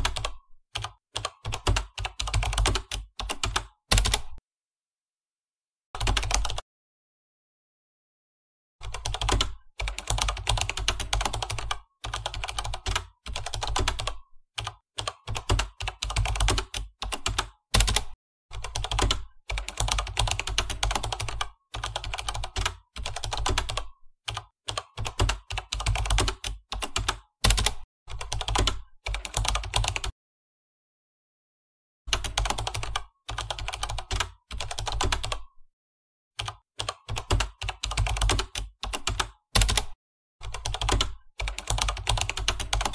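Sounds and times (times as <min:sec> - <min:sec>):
computer keyboard typing: 0:00.0 - 0:04.4, 0:06.0 - 0:06.6, 0:08.8 - 0:30.2, 0:32.1 - 0:35.6, 0:36.4 - 0:42.9.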